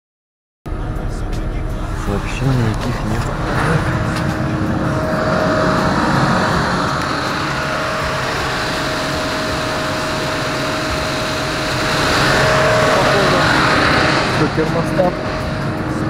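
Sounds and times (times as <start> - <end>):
car engine idling: 0.7 - 16.0
electric radiator fan running: 0.7 - 16.0.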